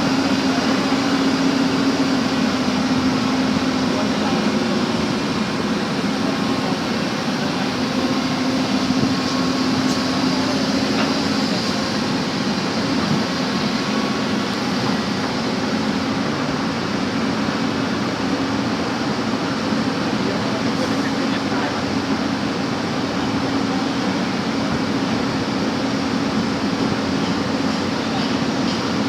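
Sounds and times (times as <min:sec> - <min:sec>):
backhoe engine running: 0:00.0 - 0:29.0.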